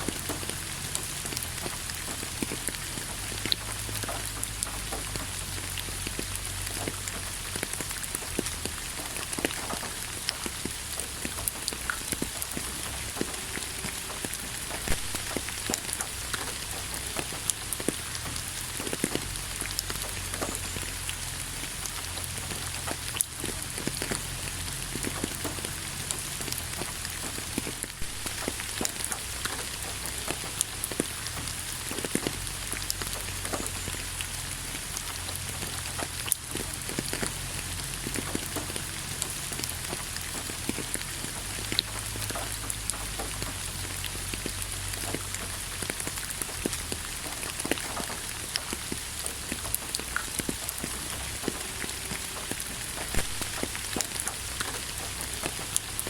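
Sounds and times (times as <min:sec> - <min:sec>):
rain drops striking close by: 0:00.0 - 0:56.0.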